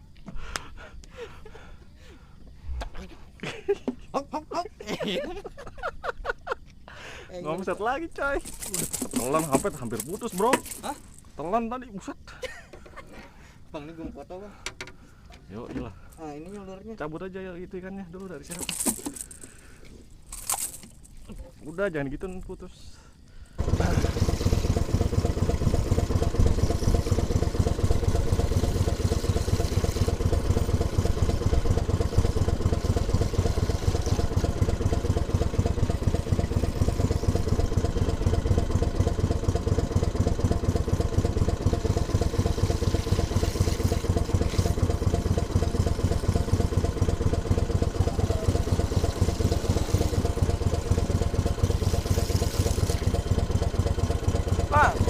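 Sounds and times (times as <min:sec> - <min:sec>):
small boat engine running: 0:06.1 - 0:21.9, 0:22.7 - 0:55.0.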